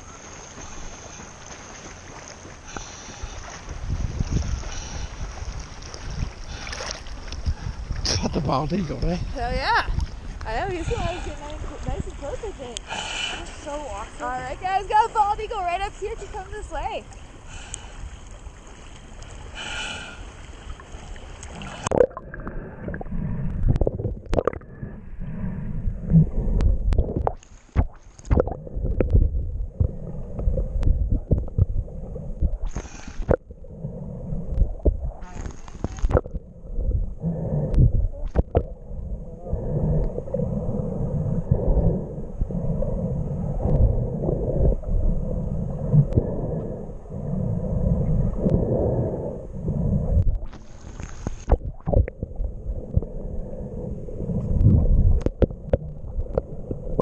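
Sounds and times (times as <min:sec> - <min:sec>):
water splashing: 0:00.0 - 0:25.4, 0:26.1 - 0:49.2, 0:49.8 - 0:57.0
underwater rumble and gurgling: 0:00.0 - 0:57.0.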